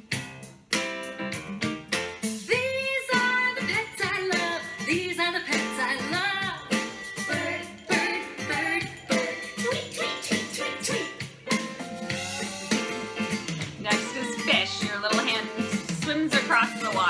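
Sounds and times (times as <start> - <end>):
person singing: 2.5 - 13.2, 13.8 - 17.0.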